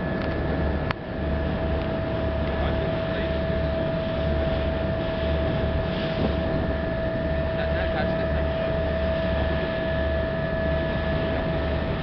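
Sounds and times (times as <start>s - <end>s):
ferry engine drone: 0.0s - 12.0s
high whine: 0.0s - 12.0s.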